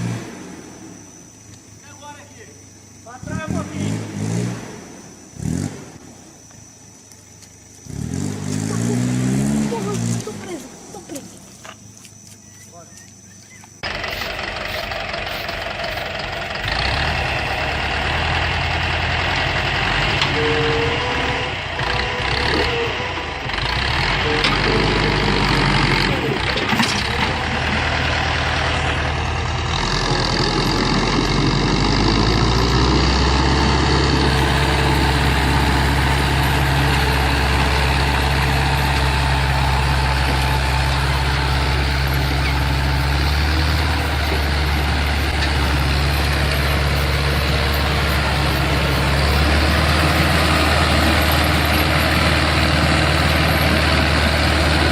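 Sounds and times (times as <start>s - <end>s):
heavy truck engine droning: 0.0s - 6.1s, 13.8s - 54.9s.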